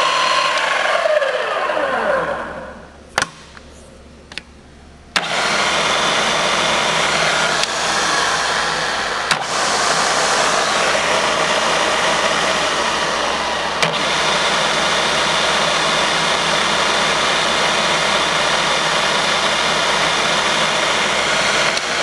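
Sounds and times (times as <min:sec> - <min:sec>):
milling machine running: 0:00.0 - 0:02.5, 0:05.2 - 0:22.0.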